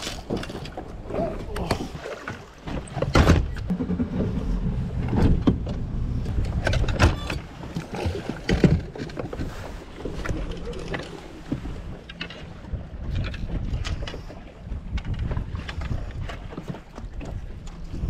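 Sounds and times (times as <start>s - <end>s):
gear knocks and clicks: 2.7s - 9.5s, 10.2s - 18.0s
wind rumble on microphone: 2.8s - 18.0s.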